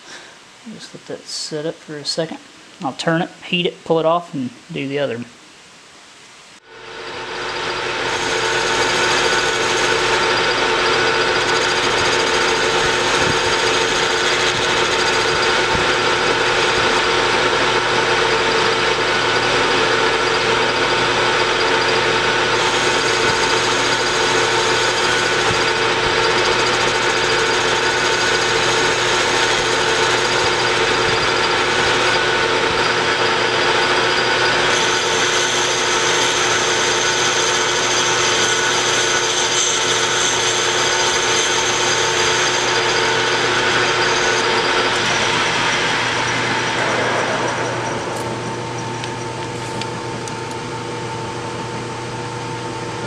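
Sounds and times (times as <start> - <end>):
metal lathe humming: 6.6 - 53.0.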